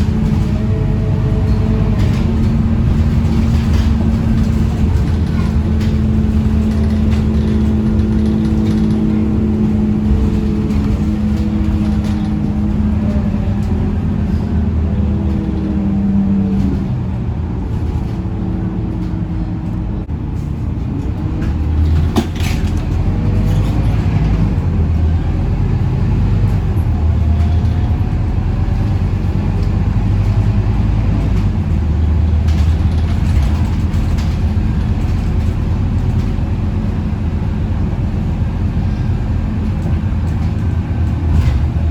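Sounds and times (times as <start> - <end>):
bus engine droning: 0.0 - 41.9.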